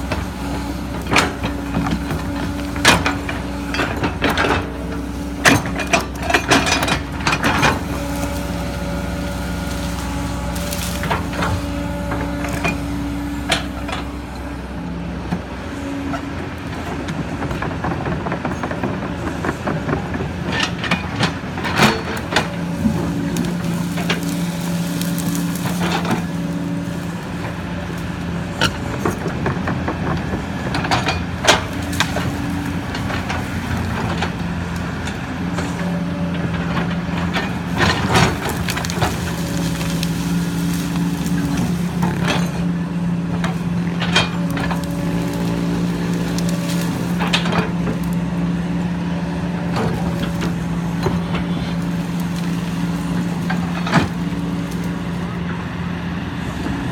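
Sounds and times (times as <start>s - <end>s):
excavator diesel engine whine: 0.0s - 56.9s.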